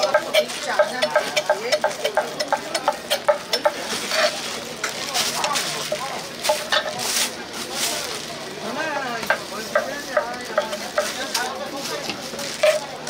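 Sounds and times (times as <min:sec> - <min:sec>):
metal utensils scraping griddle: 0:00.0 - 0:08.0, 0:09.6 - 0:13.0
meat sizzling on a griddle: 0:00.0 - 0:13.0.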